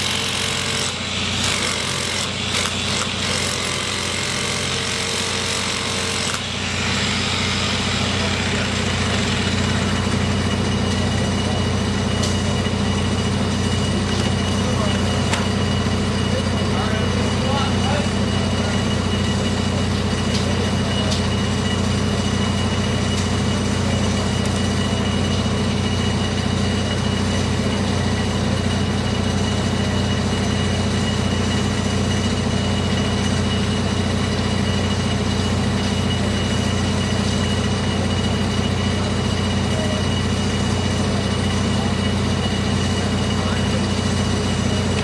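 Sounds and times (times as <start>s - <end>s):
mechanical drone with whine: 6.0s - 45.0s.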